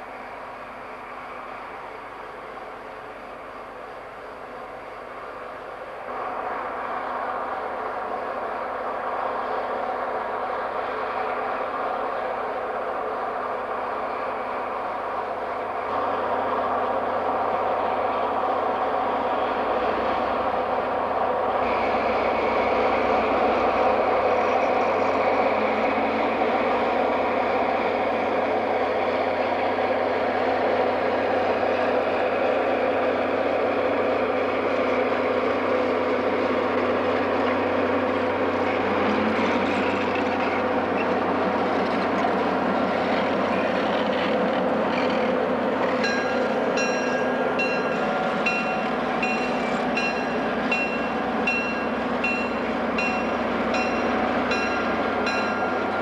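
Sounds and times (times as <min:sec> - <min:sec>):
diesel locomotive engine running: 0:00.0 - 0:56.0
passenger cars rolling by: 0:04.5 - 0:56.0.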